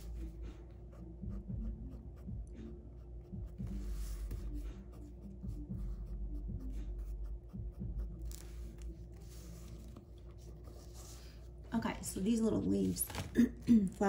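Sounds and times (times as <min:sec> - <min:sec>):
pencil strokes on paper: 0:00.0 - 0:11.8
faint low hum: 0:00.0 - 0:14.0.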